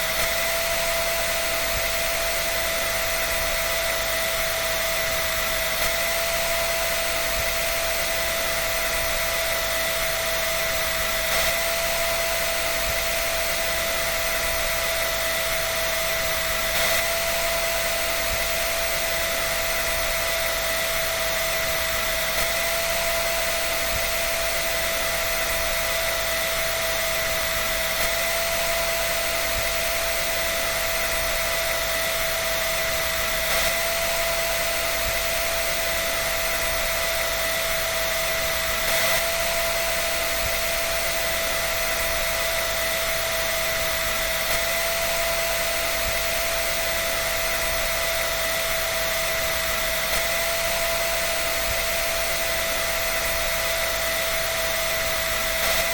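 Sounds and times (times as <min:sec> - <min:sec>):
dryer running with high whine: 0:00.0 - 0:55.9.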